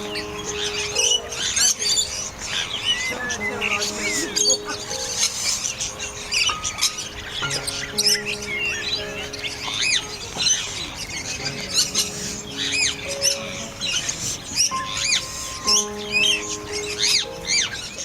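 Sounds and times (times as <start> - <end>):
birds chirping: 0.0 - 18.0
music with long held notes: 0.0 - 18.0.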